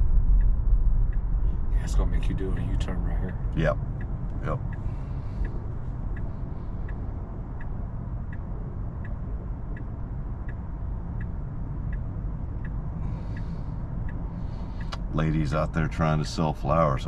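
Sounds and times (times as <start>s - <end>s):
low road rumble in car cabin: 0.0s - 17.0s
turn signal ticking: 0.0s - 17.0s.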